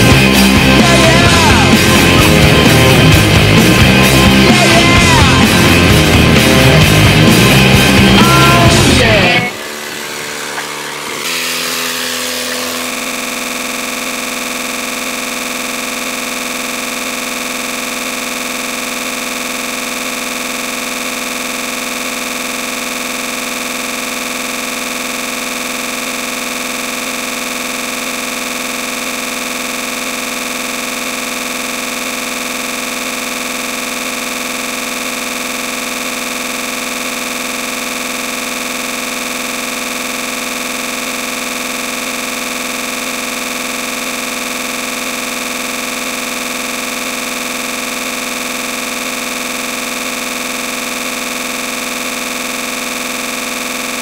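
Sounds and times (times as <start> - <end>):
steady buzzing drone: 0.0 - 54.0.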